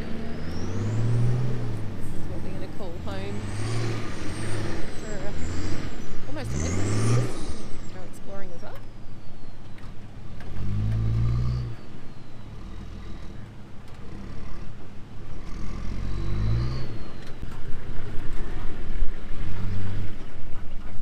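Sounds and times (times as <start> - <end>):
four-wheel drive engine revving: 0.0 - 8.8, 10.2 - 21.0.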